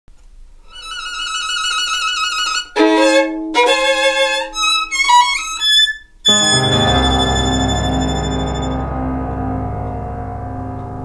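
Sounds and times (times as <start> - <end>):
violin background music: 0.8 - 9.8.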